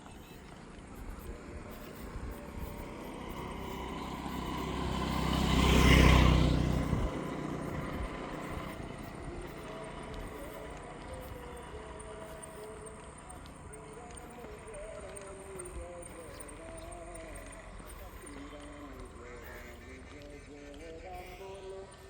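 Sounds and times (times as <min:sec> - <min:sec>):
vehicle passing by: 0:00.0 - 0:22.0.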